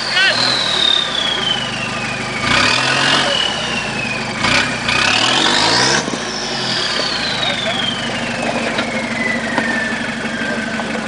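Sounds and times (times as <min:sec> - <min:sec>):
off-road engine under load: 0:00.0 - 0:11.0.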